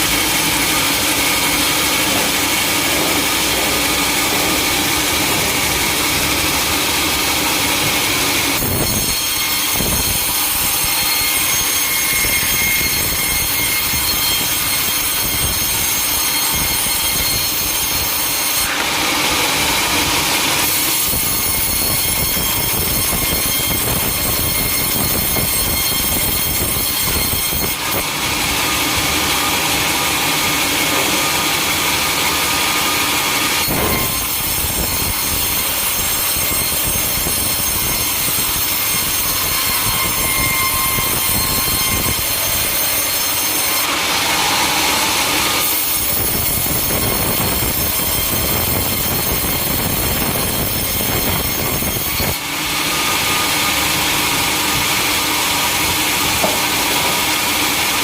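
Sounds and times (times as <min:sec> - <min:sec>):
saw cutting timber: 0:00.0 - 0:58.0
sawmill machinery running: 0:00.0 - 0:58.0.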